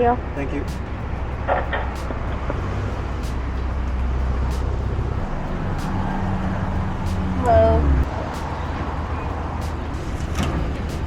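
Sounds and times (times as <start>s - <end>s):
car engine hum: 0.0s - 11.0s
road noise inside car: 0.0s - 11.0s.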